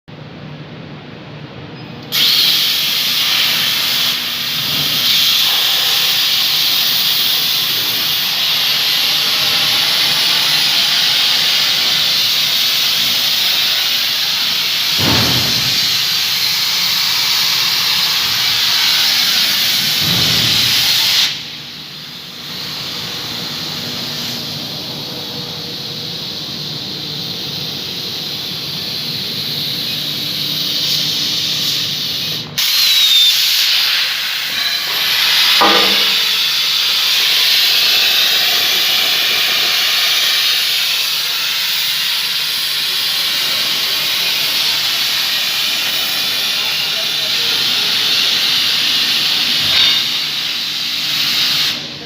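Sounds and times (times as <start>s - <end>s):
plasma cutter hissing: 2.1s - 51.9s.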